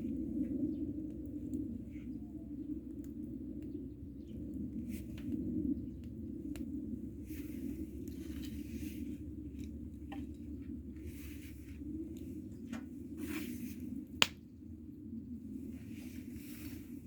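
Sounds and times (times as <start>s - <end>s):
bonfire crackling: 0.0s - 14.5s
steady low rumble: 0.0s - 17.0s.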